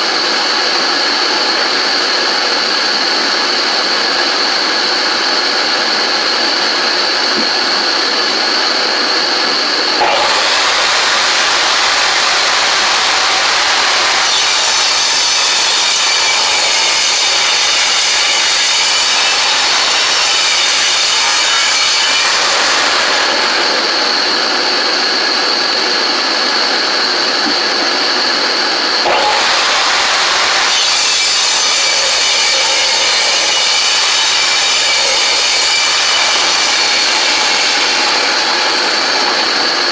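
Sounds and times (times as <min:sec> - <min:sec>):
power tool whining: 0:00.0 - 0:39.9
blades cutting wood: 0:02.6 - 0:39.9.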